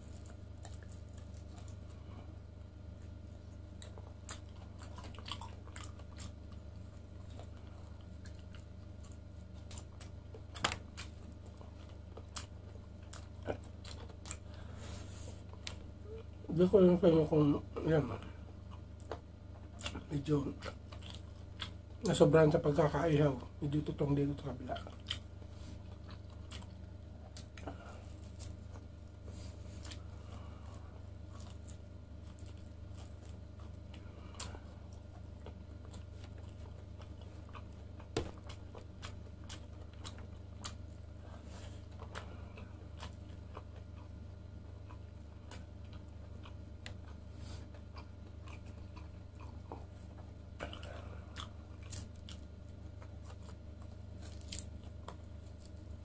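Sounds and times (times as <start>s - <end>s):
biting and chewing meat: 0.0s - 56.0s.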